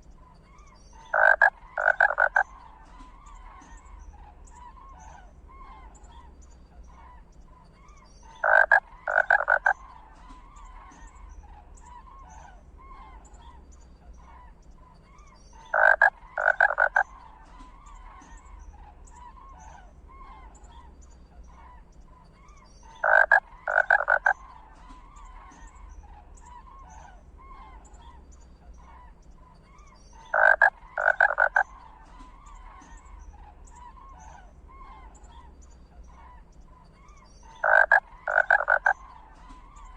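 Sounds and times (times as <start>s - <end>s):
faint chatter of small calls: 0.0s - 39.9s
low steady hum: 0.0s - 39.9s
loud animal calls: 1.0s - 7.3s, 8.3s - 39.9s.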